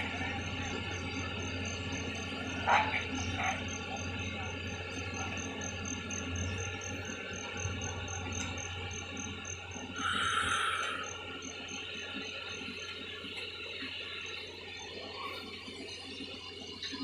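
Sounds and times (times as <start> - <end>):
construction machinery humming: 0.0 - 17.0.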